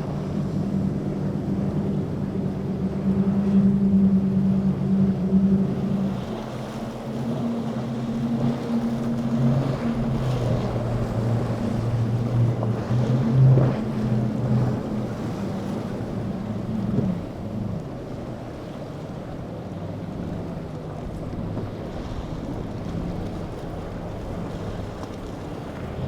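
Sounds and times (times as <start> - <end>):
motorboat engines droning: 0.0 - 26.0
water noise: 0.0 - 26.0
wind: 0.0 - 26.0.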